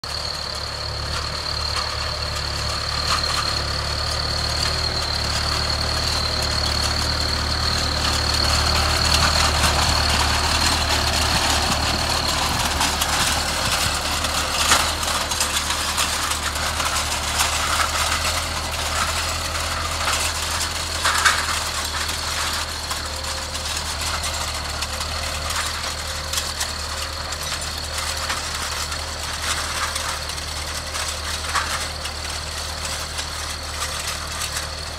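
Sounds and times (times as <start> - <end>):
tractor diesel engine: 0.0 - 34.9.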